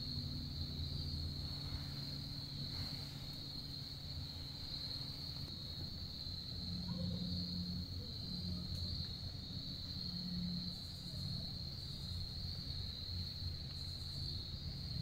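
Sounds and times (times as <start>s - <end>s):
crickets trilling: 0.0s - 15.0s
low steady rumble: 0.0s - 15.0s.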